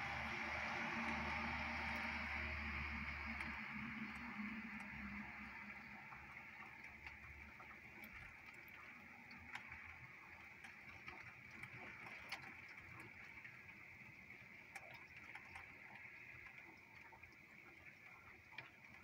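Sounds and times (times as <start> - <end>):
hiss of falling rain: 0.0 - 19.0
raindrops ticking on window: 0.0 - 19.0.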